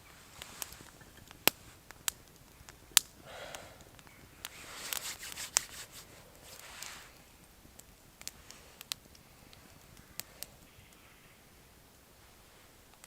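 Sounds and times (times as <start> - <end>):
fire popping: 0.0 - 13.0
soft fire hiss: 0.0 - 13.0
wood fire crackling: 0.0 - 13.0.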